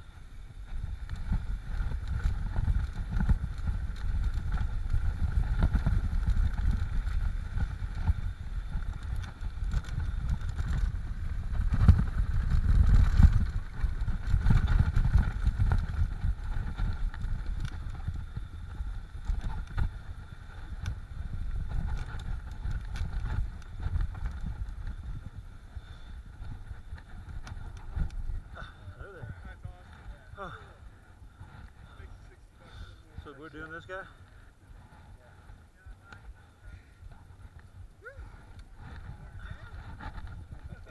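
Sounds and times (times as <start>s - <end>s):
bike rattling over rough ground: 0.0s - 40.9s
wind buffeting microphone: 0.0s - 40.9s.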